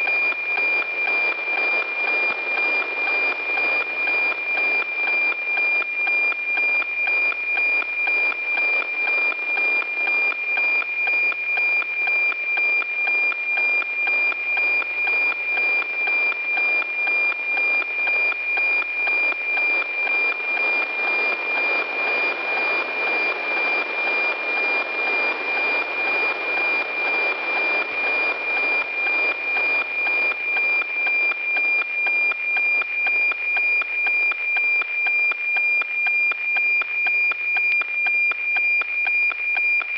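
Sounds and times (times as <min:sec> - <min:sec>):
steady ticking radio tone: 0:00.0 - 0:39.9.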